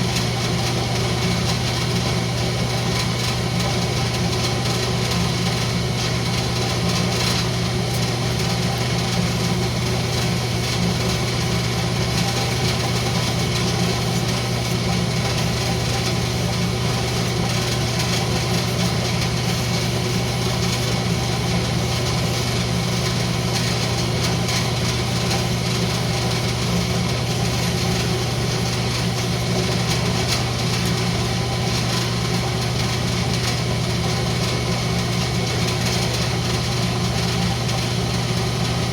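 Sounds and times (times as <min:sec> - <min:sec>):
wood lathe running: 0:00.0 - 0:38.9.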